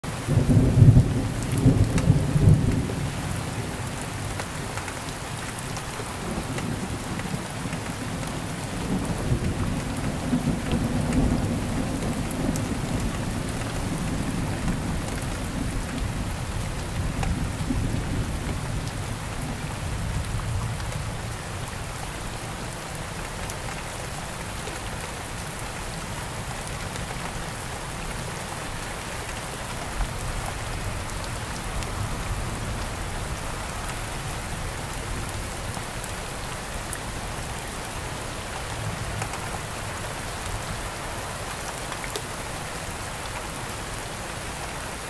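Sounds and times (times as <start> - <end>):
rain on leaves: 0.0 - 45.0.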